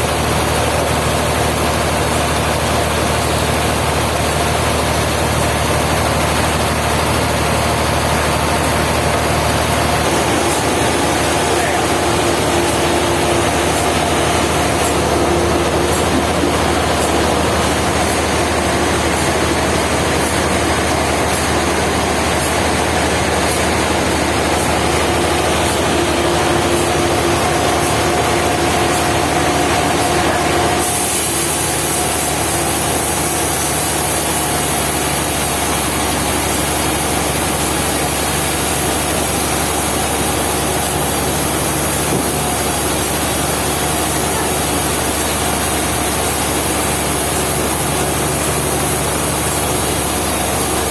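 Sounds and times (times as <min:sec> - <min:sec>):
sawmill machinery running: 0:00.0 - 0:50.9.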